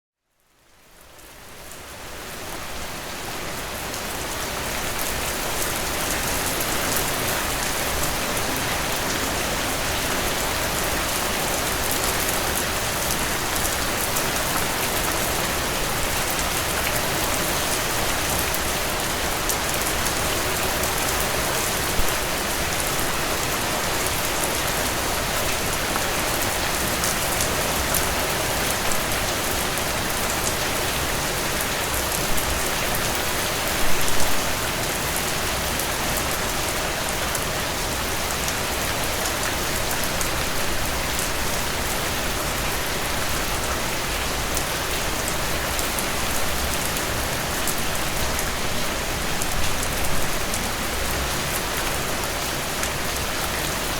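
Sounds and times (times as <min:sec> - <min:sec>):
steady rainfall: 0:00.2 - 0:53.9.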